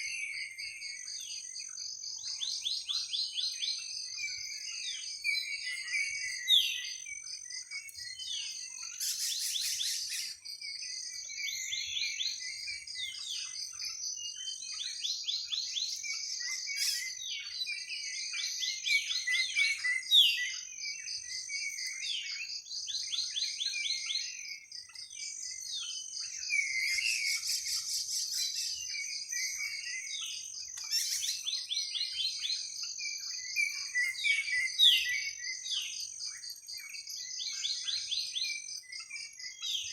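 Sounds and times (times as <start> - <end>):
birds chirping: 1.0 - 39.9.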